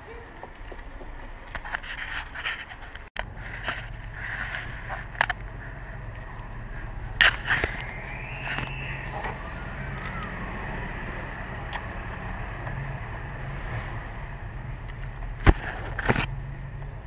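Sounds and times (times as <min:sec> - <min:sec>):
steady low hum: 0:02.7 - 0:17.0.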